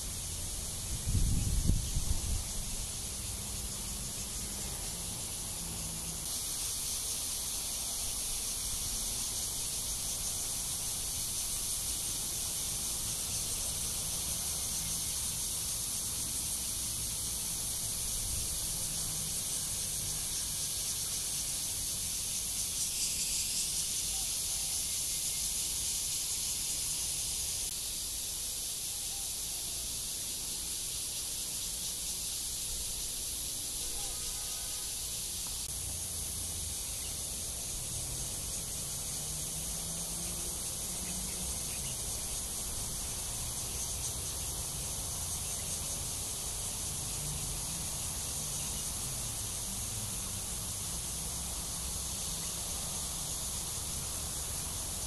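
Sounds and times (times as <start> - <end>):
cicadas singing: 0.0 - 55.0.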